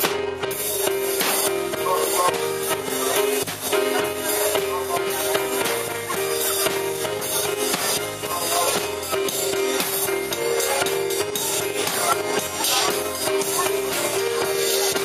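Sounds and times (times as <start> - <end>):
busy steady percussion: 0.0 - 15.0
instrumental music with held notes: 0.0 - 15.0.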